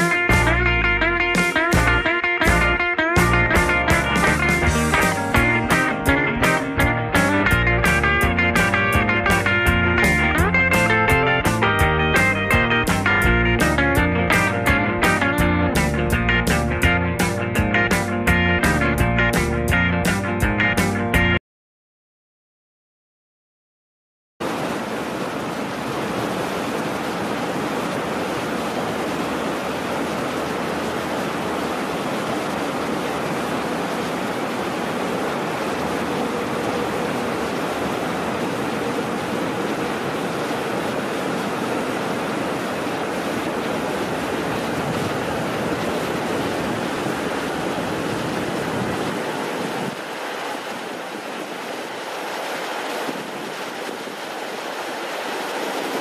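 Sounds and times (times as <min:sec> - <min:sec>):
rushing white-water river: 0:00.0 - 0:15.3, 0:24.4 - 0:56.0.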